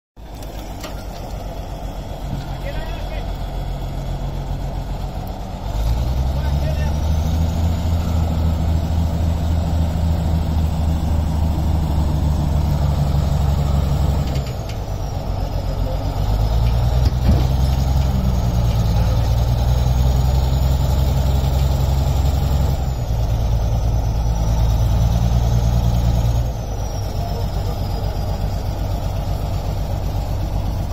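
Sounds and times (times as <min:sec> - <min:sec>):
bulldozer diesel engine running: 0:00.2 - 0:30.9.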